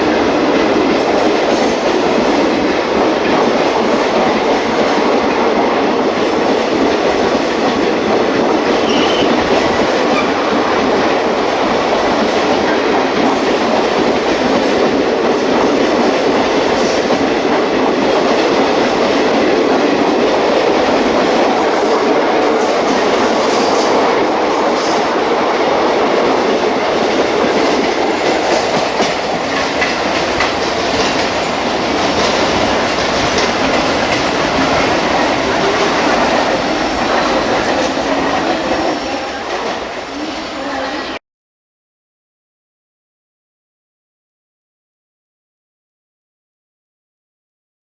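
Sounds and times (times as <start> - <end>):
train wheels rushing on rails: 0.0 - 41.2.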